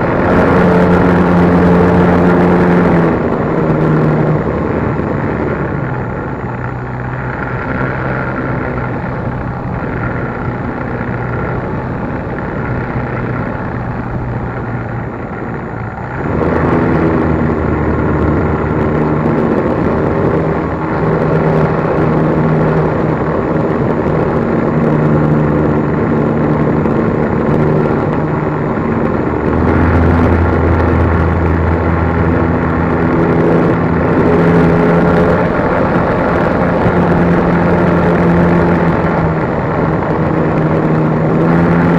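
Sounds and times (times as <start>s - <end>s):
wind rush over microphone: 0.0s - 41.9s.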